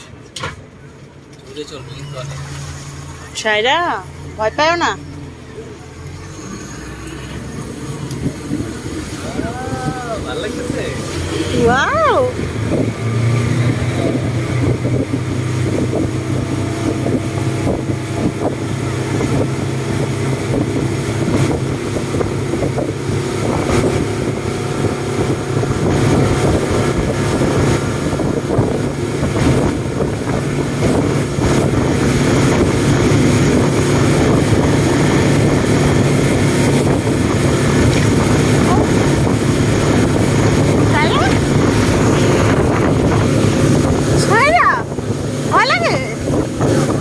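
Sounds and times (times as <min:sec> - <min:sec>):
speedboat engine running: 0:00.0 - 0:47.0
wind buffeting microphone: 0:06.9 - 0:47.0.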